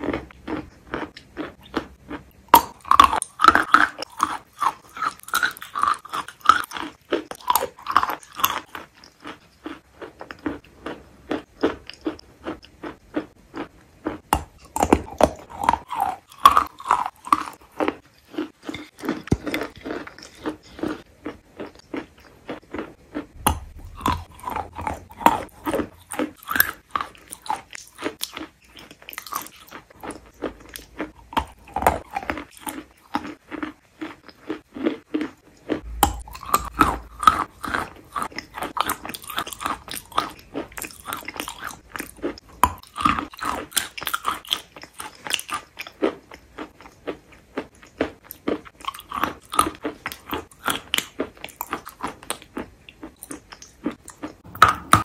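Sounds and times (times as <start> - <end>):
chalk paste being chewed: 0.0 - 55.0.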